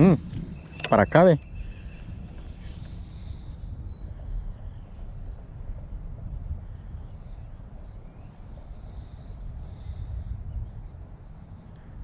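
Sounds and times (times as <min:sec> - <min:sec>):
bird chirping: 0:00.0 - 0:05.9, 0:06.6 - 0:10.6
low uneven rumble: 0:00.0 - 0:12.0.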